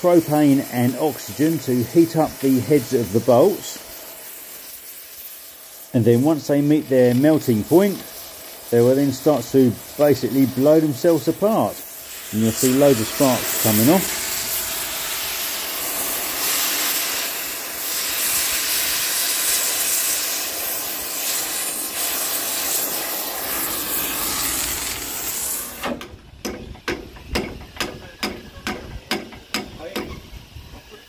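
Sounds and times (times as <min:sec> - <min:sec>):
cutting torch hissing: 0:00.0 - 0:31.0.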